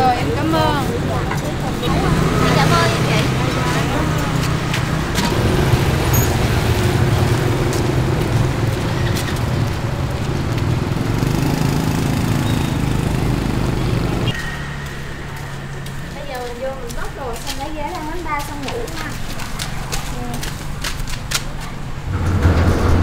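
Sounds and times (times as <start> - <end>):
traffic noise: 0.0 - 23.0
vehicle engine humming: 0.0 - 23.0.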